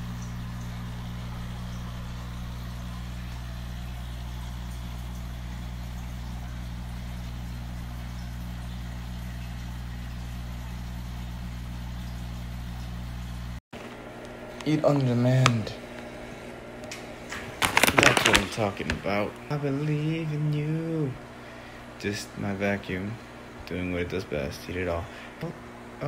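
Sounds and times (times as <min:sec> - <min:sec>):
aquarium pump hum: 0:00.0 - 0:26.0.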